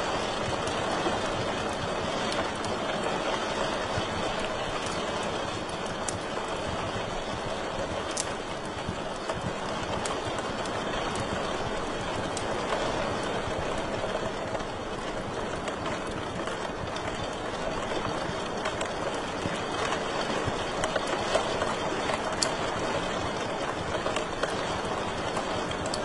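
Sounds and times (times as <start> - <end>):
wood fire crackles and pops: 0.0 - 26.0.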